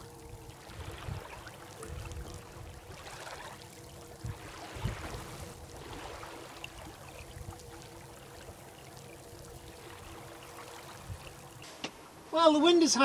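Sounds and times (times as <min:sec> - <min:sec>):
water swishing along hull: 0:00.0 - 0:12.2
faint steady hum: 0:00.0 - 0:13.0.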